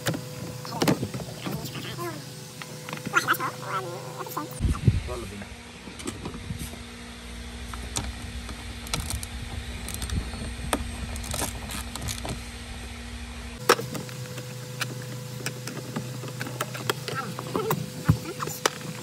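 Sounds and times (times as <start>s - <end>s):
steady workshop hum: 0.0s - 19.0s.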